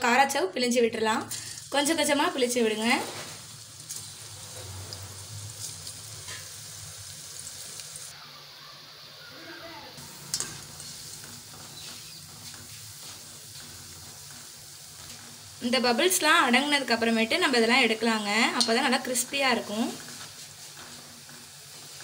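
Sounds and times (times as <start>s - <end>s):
dough deep-frying in oil: 0.0s - 22.0s.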